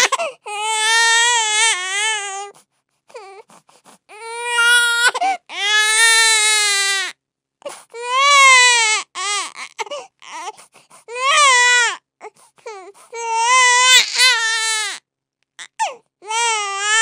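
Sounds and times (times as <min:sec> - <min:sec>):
baby crying: 0:00.0 - 0:15.0, 0:15.6 - 0:17.0.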